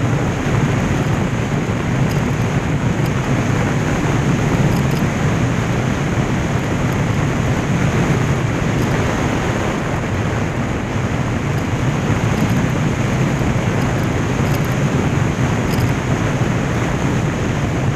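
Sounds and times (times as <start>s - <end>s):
motorcycle engine drone: 0.0s - 17.9s
wind rushing on microphone: 0.0s - 17.9s.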